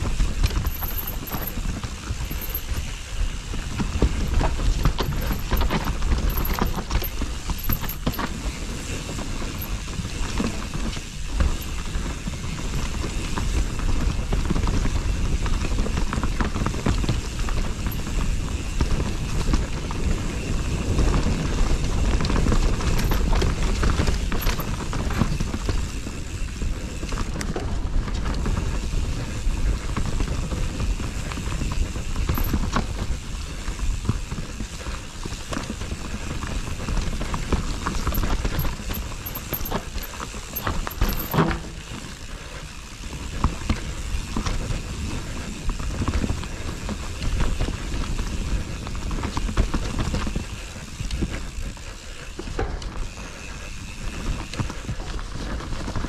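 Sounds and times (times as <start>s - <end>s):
bike frame and chain rattling: 0.0s - 56.0s
bike tyres rolling on dirt: 0.0s - 56.0s
wind rumbling on microphone: 0.0s - 56.0s.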